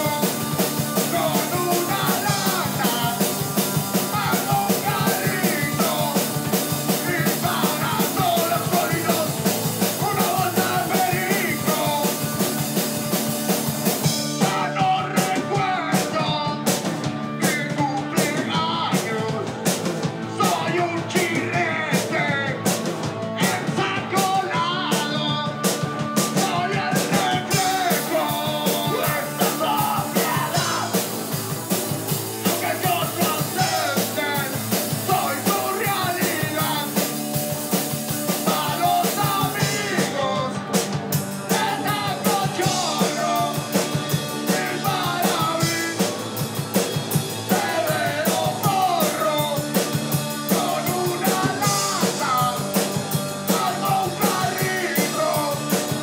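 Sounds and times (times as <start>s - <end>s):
drum kit with cymbals: 0.0s - 56.0s
electric guitar: 0.0s - 56.0s
lead vocal singing: 0.0s - 56.0s.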